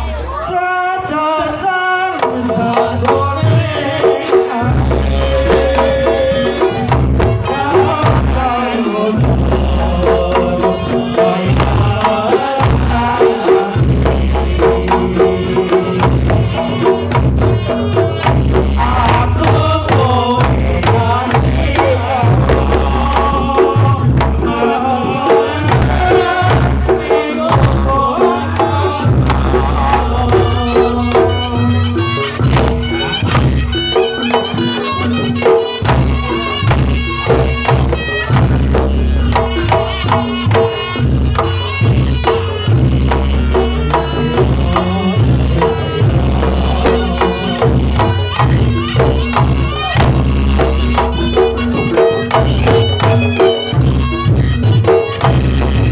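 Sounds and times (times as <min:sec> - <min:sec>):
hand drum strokes: 0:02.2 - 0:55.9
gamelan ensemble playing: 0:04.4 - 0:55.9.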